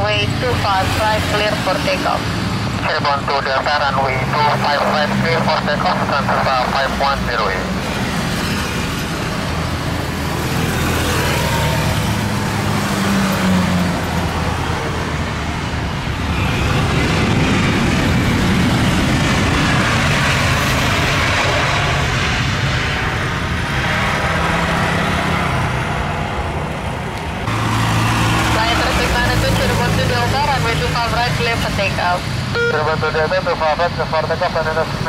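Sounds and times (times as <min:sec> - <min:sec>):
jet airliner landing: 0:00.0 - 0:35.0.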